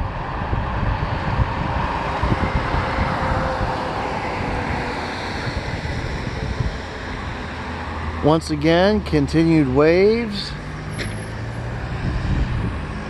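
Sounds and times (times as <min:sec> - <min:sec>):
wind buffeting microphone: 0:00.0 - 0:10.8, 0:11.4 - 0:13.0
diesel truck driving past: 0:00.1 - 0:13.0.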